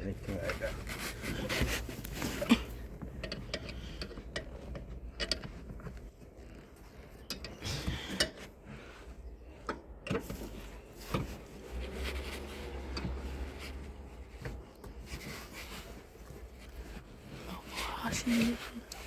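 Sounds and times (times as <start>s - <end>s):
foam rubbing and scraping: 0.0s - 19.0s.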